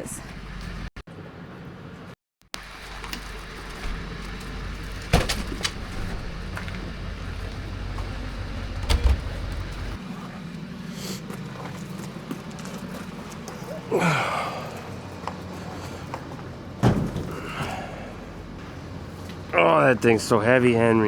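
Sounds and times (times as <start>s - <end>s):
engine low rumble: 0.0s - 21.0s.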